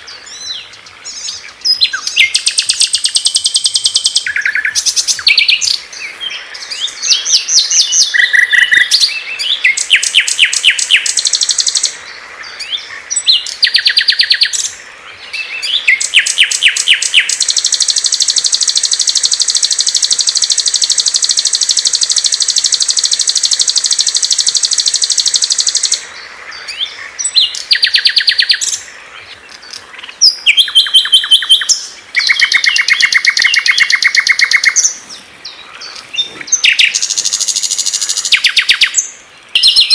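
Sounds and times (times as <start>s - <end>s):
songbirds chirping trills: 0.0s - 39.9s.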